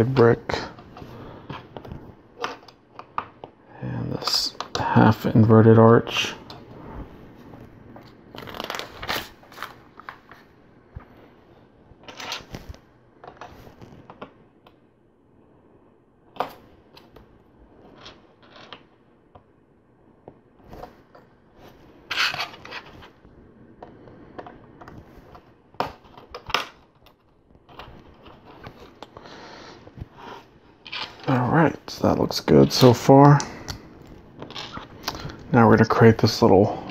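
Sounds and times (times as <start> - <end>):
soft rustling of pieces: 0.0 - 14.9, 16.3 - 36.9.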